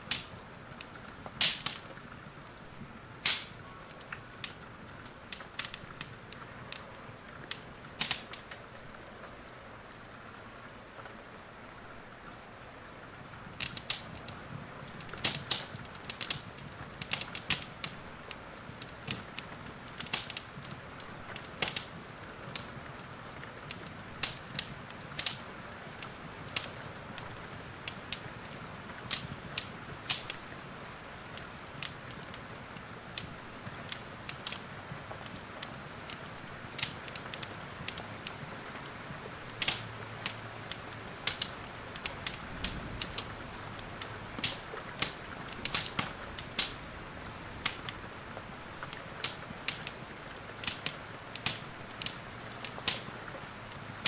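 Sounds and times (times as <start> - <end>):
fireplace fire crackling: 0.0 - 54.0
rain hiss: 0.0 - 54.0.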